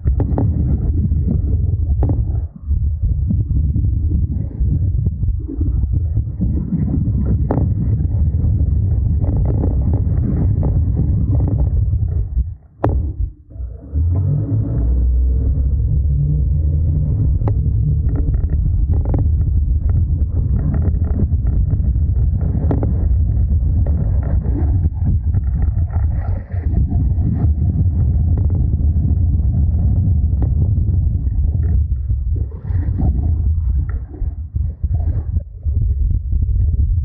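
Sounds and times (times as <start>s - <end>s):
van suspension low drone: 0.0s - 37.0s.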